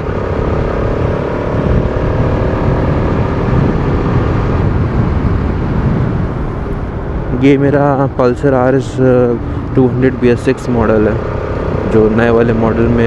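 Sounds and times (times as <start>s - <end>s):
motorcycle engine running: 0.0s - 13.0s
wind rush on microphone: 0.0s - 13.0s.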